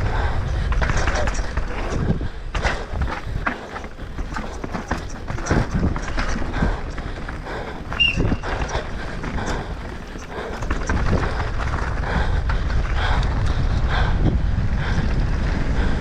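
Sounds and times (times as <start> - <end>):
tyres on dirt and rocks: 0.0 - 13.7
bike knocking and rattling: 0.0 - 16.0.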